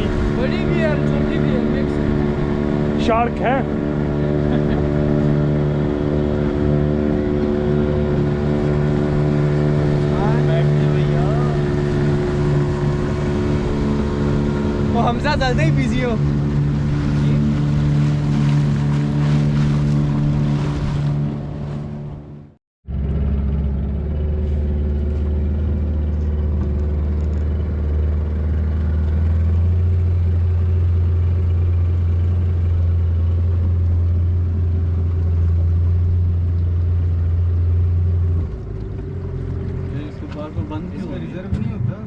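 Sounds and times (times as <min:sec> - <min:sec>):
motorboat engine running: 0:00.0 - 0:42.0.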